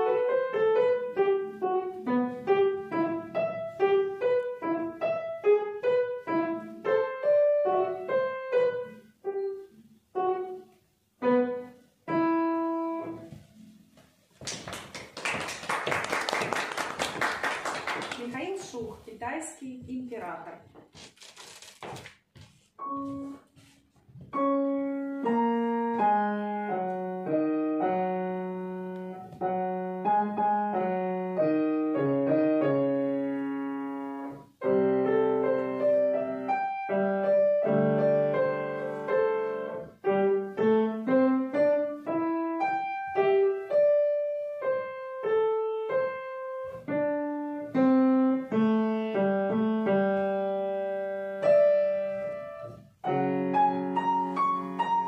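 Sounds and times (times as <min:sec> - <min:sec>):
grand piano playing: 0:00.0 - 0:13.8, 0:22.8 - 0:55.0.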